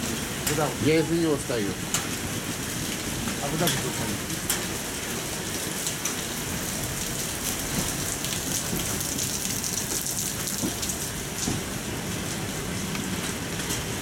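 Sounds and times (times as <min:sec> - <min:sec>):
steady rain patter: 0:00.0 - 0:14.0.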